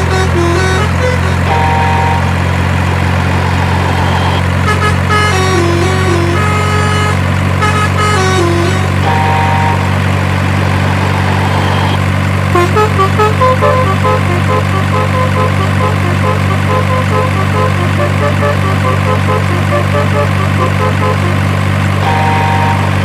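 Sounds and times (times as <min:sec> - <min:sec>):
bus horn playing a tune: 0:00.0 - 0:23.0
truck engine idling: 0:00.0 - 0:23.0.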